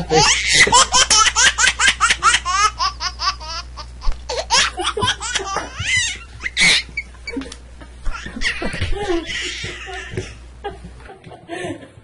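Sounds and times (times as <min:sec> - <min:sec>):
person laughing hard: 0:00.0 - 0:12.0.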